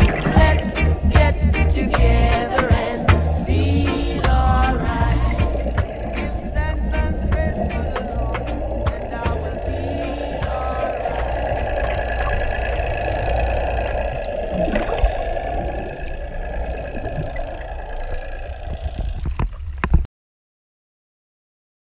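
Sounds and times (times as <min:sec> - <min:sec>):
boat hum: 0:00.0 - 0:20.0
muffled underwater rushing water: 0:00.0 - 0:20.0
water splashing: 0:00.0 - 0:20.0.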